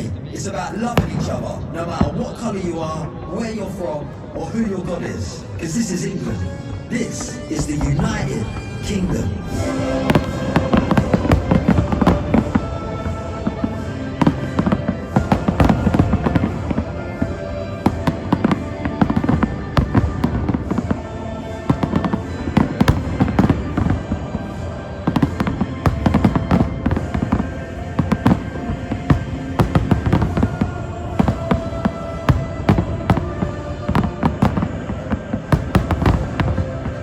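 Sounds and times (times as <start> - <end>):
fireworks bangs: 0.0 - 4.4, 6.6 - 37.0
music playing: 0.0 - 37.0.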